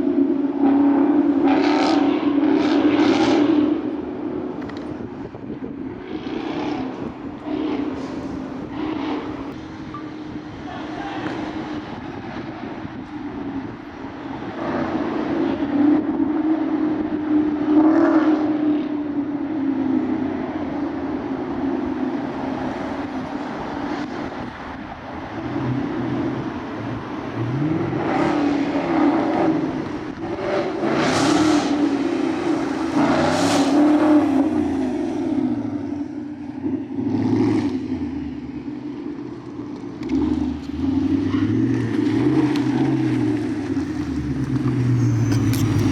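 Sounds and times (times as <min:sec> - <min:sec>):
car engine running with surges: 0:00.0 - 0:45.9.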